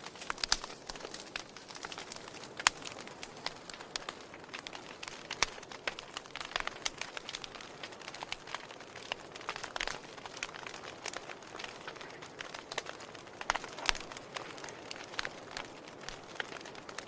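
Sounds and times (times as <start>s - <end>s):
fire crackling and hissing: 0.0s - 17.0s.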